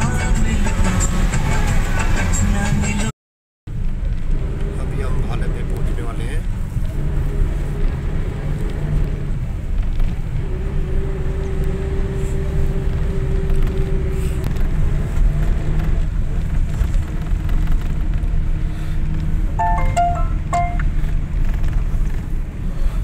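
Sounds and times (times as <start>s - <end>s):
vehicle engine and road rumble: 0.0s - 3.1s, 3.7s - 23.0s.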